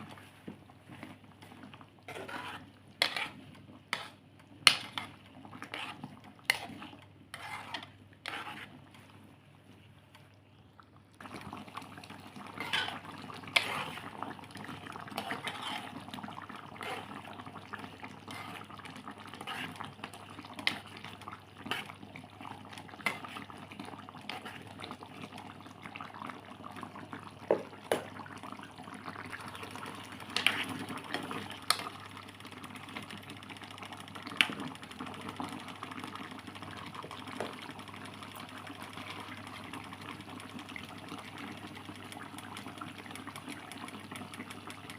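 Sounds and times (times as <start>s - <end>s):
food simmering in a pan: 0.0s - 44.9s.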